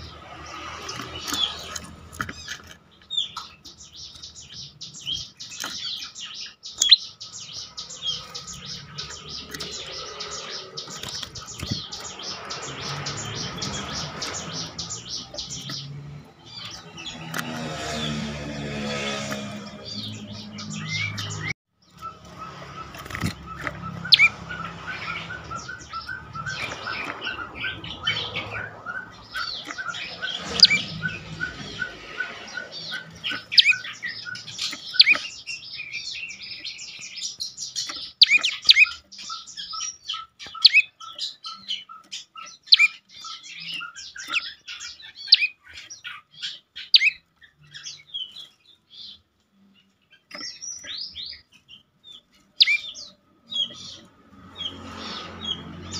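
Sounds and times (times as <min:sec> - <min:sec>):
sharp high bird chirps: 0:00.0 - 0:18.3, 0:19.0 - 0:49.2
bird song repeated notes: 0:00.0 - 0:55.9.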